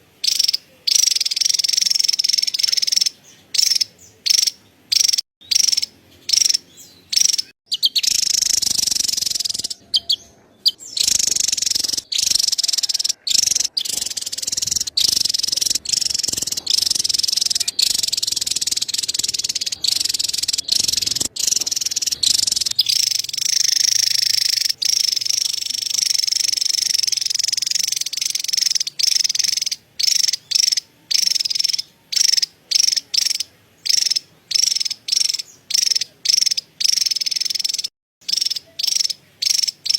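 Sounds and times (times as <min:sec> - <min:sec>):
bird chattering call: 0:00.2 - 0:39.9.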